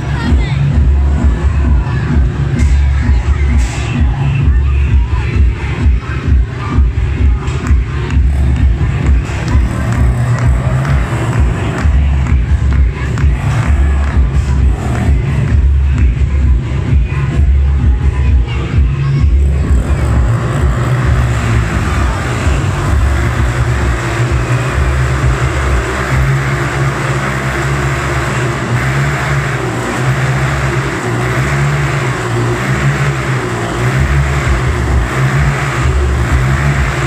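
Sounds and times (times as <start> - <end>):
motorcycles circling: 0.0 - 37.0.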